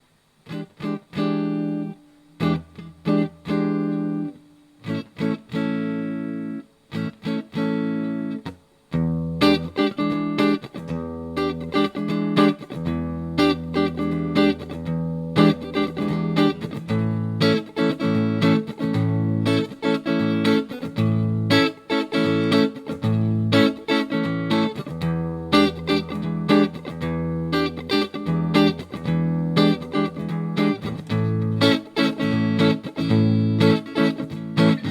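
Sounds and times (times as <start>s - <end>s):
electric guitar strumming chords: 0.5s - 34.9s.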